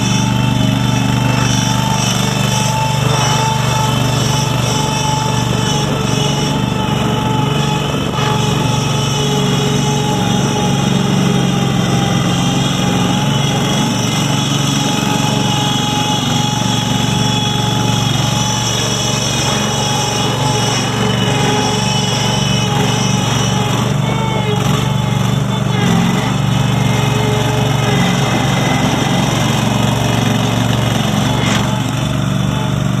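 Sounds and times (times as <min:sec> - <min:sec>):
gas engine running steadily: 0:00.0 - 0:33.0.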